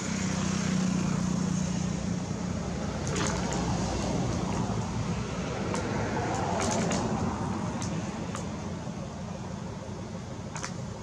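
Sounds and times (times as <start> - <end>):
low engine hum: 0.0 - 11.0
outdoor background noise: 0.0 - 11.0.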